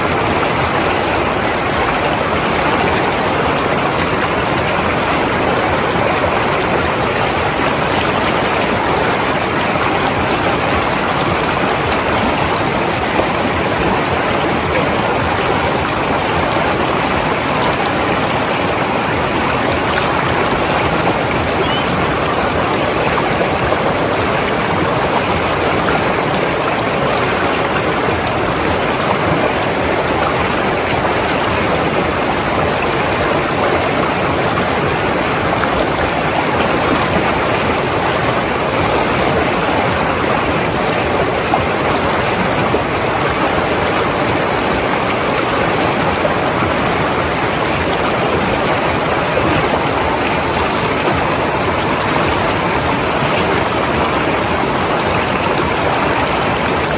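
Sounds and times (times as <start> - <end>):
river flowing over rocks: 0.0 - 56.9.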